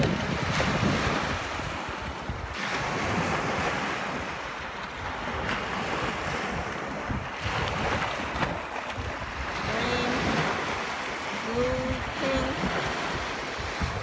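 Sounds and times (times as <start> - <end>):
small waves washing over sand: 0.0 - 14.0
wind buffeting microphone: 0.0 - 14.0.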